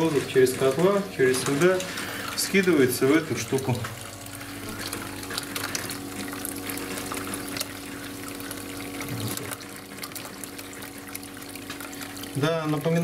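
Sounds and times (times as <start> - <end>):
electric pump humming: 0.0 - 13.0.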